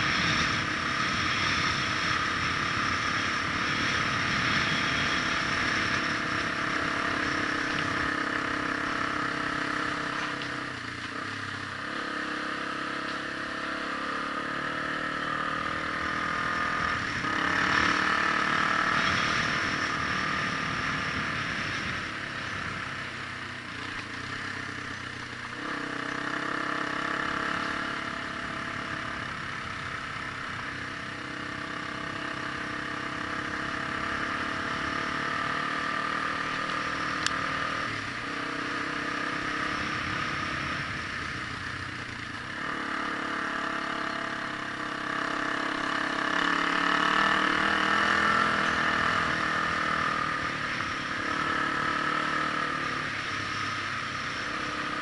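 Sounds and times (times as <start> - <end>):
vehicle engine driving: 0.0 - 55.0.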